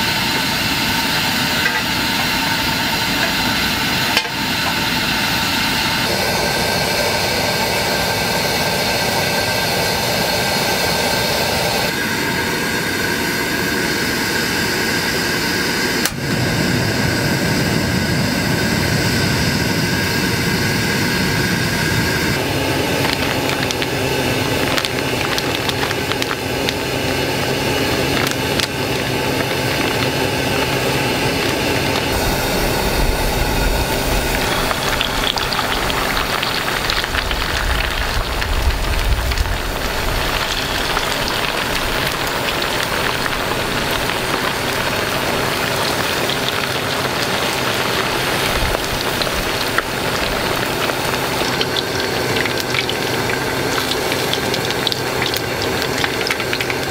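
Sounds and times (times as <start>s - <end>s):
gas burner hiss: 0.0s - 56.9s
oil sizzling and crackling: 0.0s - 56.9s.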